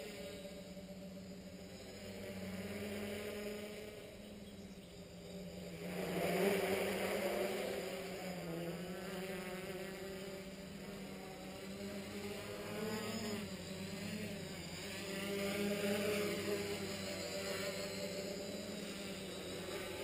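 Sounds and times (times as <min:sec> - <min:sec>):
drone propellers buzzing: 0:00.0 - 0:20.0.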